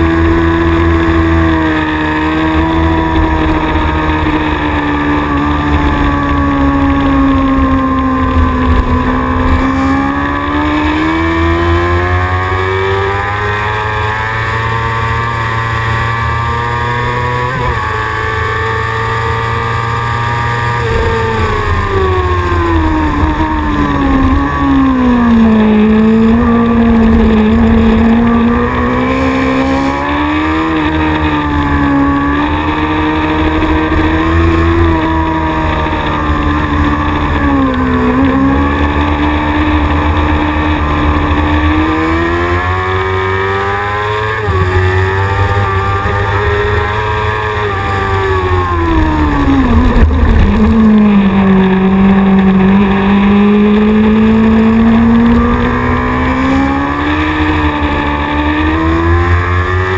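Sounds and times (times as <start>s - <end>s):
wind noise: 0.0s - 13.4s, 16.6s - 59.9s
racing motorcycle engine: 0.0s - 59.9s.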